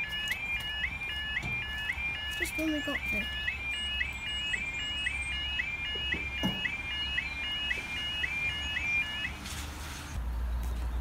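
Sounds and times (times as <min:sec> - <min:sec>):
level crossing alarm warbling: 0:00.0 - 0:09.4.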